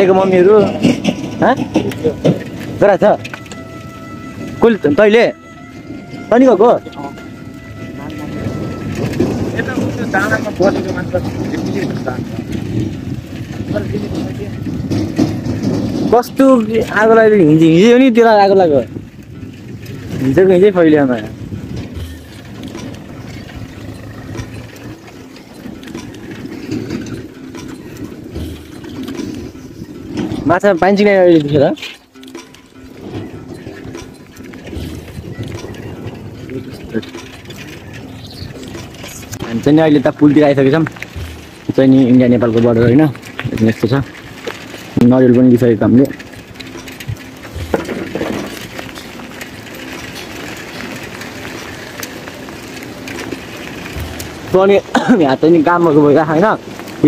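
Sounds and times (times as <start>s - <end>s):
bicycle rattling and clicking: 0.0s - 57.0s.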